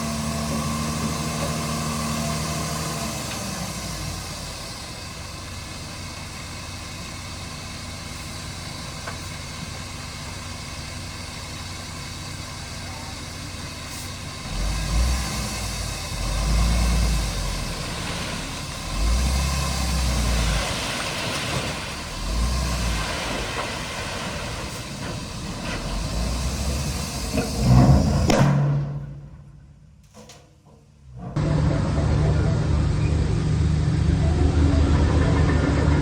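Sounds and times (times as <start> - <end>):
bulldozer diesel engine rumble: 0.0 - 36.0.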